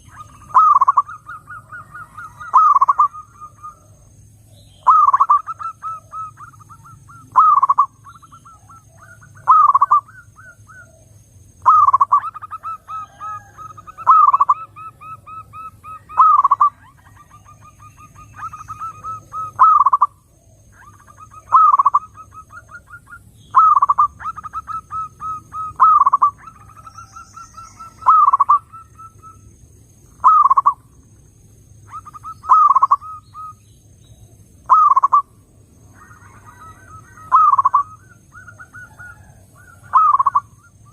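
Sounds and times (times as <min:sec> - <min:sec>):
dove cooing: 0:00.0 - 0:31.1, 0:31.8 - 0:40.9.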